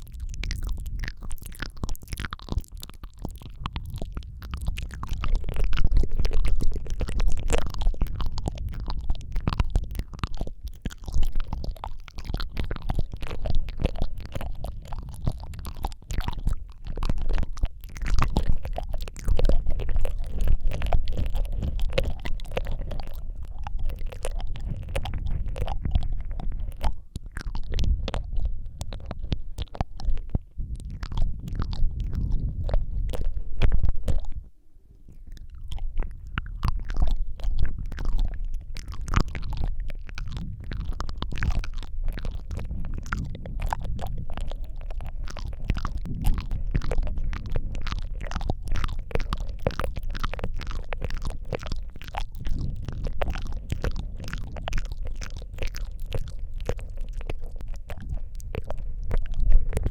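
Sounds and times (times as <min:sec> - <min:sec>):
low microphone rumble: 0:00.0 - 0:59.9
wet mouth clicks and lip smacks: 0:00.0 - 0:59.9.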